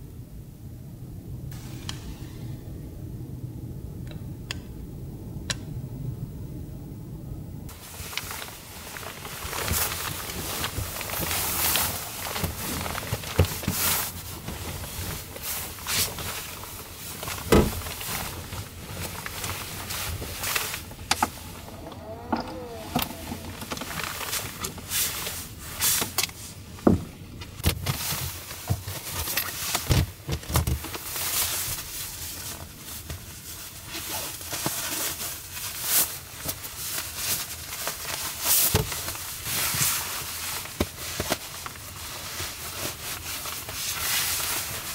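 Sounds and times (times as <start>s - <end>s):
fabric rustling: 7.7s - 44.9s.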